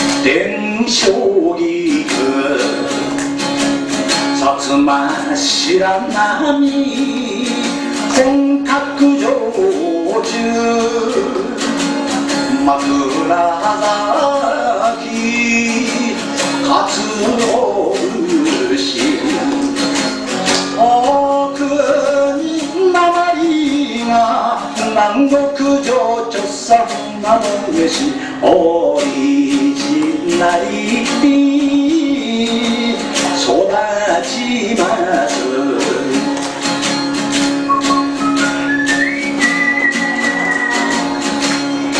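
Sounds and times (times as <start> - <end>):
man singing: 0.0 - 3.4, 4.0 - 36.5
guitar accompaniment: 0.0 - 41.9.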